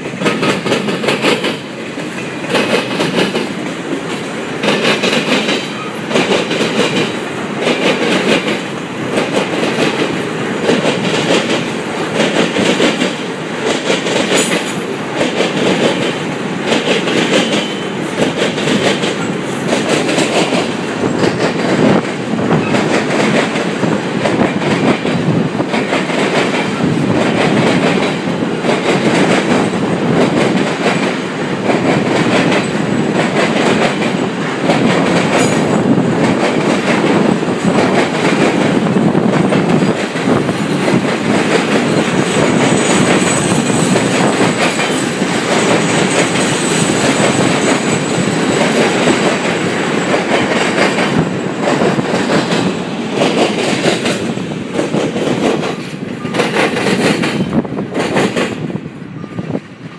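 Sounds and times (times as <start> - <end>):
wheels clacking over rail joints: 0.0 - 58.8
train cars rolling past: 0.0 - 59.9.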